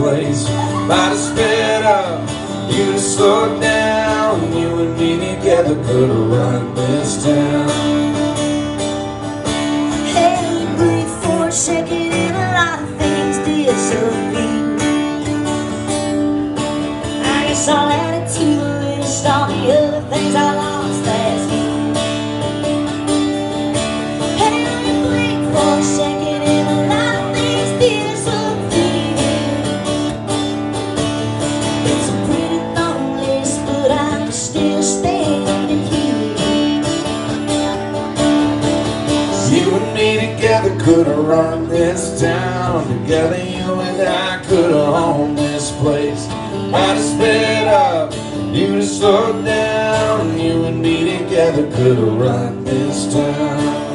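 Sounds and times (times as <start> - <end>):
acoustic guitars playing: 0.0 - 53.9.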